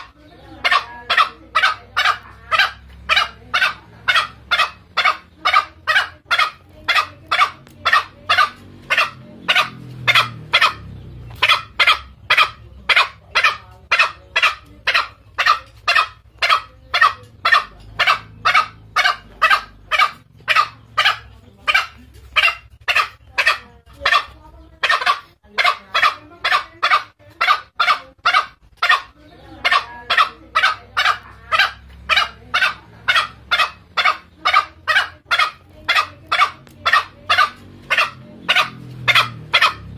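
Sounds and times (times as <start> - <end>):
junglefowl clucking calls: 0.0 - 39.9.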